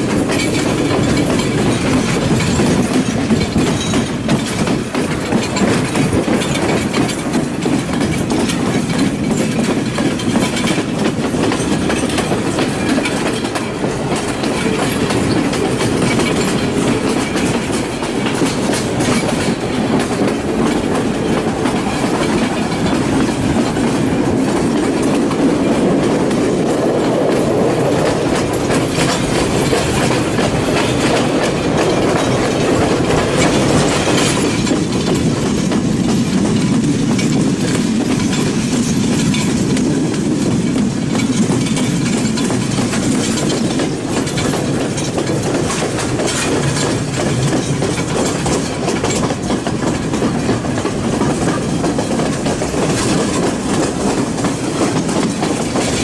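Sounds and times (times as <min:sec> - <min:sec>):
rail clicks: 0:00.0 - 0:56.0
train wheels rumbling on rails: 0:00.0 - 0:56.0.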